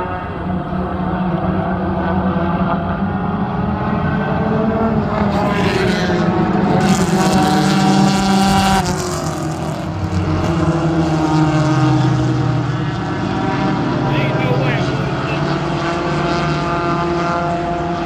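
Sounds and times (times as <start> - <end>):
race car passing close: 0.0 - 18.0
race cars at high revs: 0.0 - 18.0.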